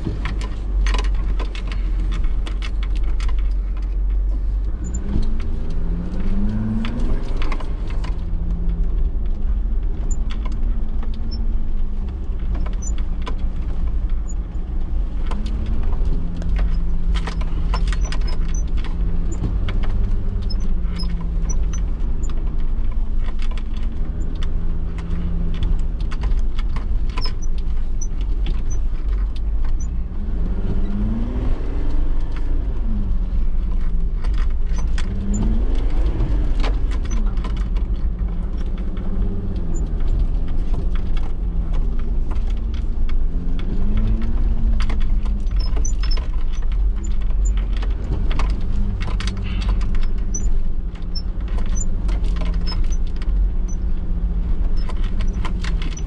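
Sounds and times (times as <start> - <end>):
clicks and rattles: 0.0 - 30.0, 30.8 - 56.0
vehicle engine rumbling: 0.0 - 56.0.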